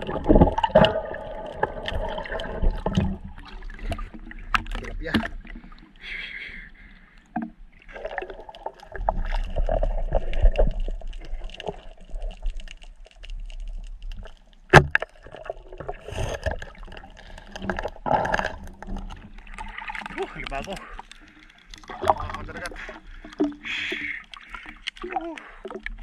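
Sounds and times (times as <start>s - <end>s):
water gurgling and sloshing: 0.0s - 26.0s.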